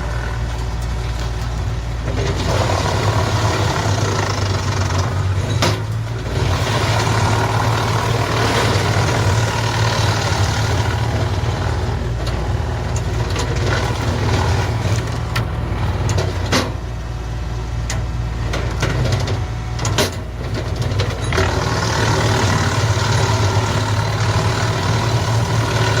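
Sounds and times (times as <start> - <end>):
branches cracking in chipper: 0.0 - 16.4, 21.3 - 26.0
wood chipper droning: 0.0 - 26.0.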